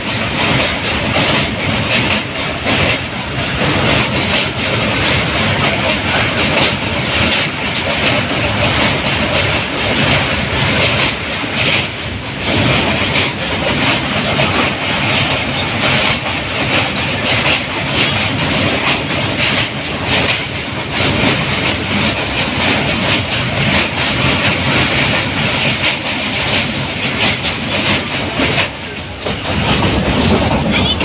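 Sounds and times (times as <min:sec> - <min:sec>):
train rumbling over bridge: 0:00.0 - 0:31.0
wheels clattering on rails: 0:00.0 - 0:31.0.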